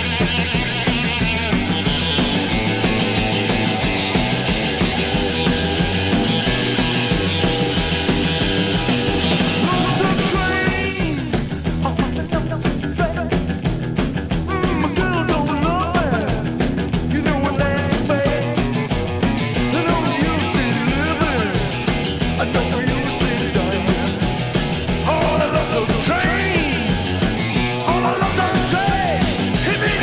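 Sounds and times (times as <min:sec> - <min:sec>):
bending melodic guitar line: 0:00.0 - 0:30.0
rock and roll band playing: 0:00.0 - 0:30.0.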